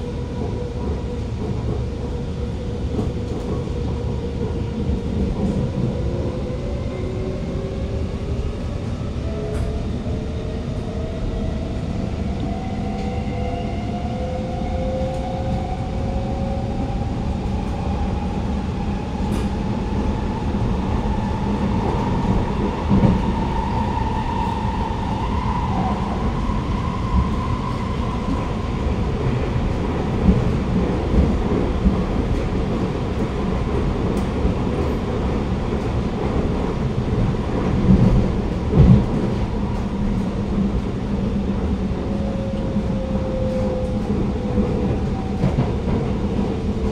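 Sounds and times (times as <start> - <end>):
metro train rumble: 0.0 - 46.9.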